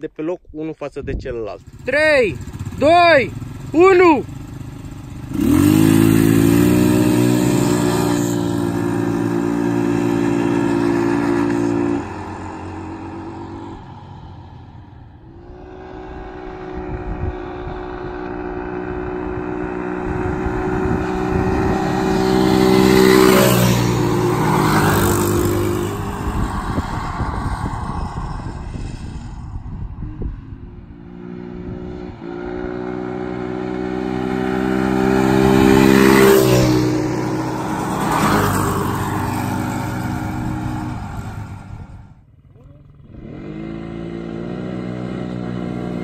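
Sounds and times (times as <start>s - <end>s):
quads passing by: 1.1s - 46.0s
quad engines revving: 1.6s - 46.0s.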